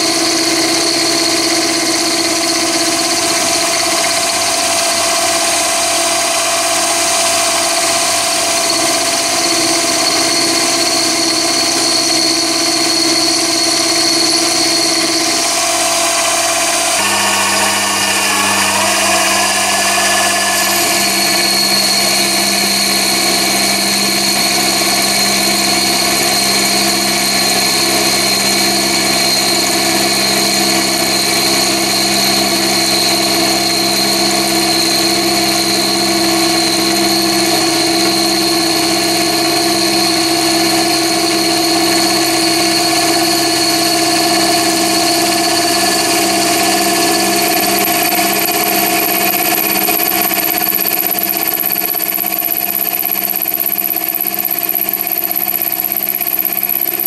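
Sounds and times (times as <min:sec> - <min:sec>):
lathe mechanical whine: 0:00.0 - 0:57.0
steady high tone: 0:07.2 - 0:57.0.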